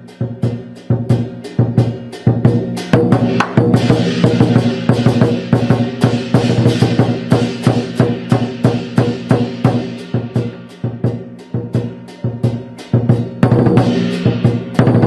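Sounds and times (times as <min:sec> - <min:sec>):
cymbals clashing: 0:00.0 - 0:15.0
large drum beating fast: 0:00.0 - 0:15.0.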